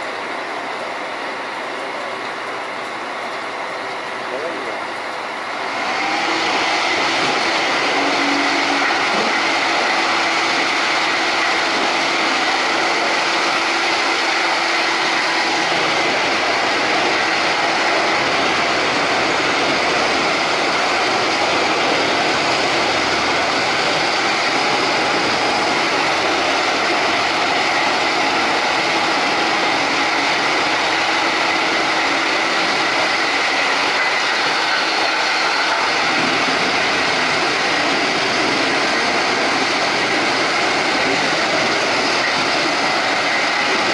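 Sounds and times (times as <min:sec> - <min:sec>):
wood shredder running: 0:00.0 - 0:43.9.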